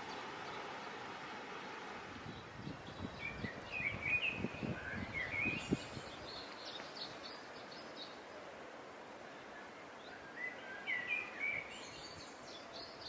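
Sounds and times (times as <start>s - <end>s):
small birds chirping: 0.0s - 8.5s, 9.2s - 13.0s.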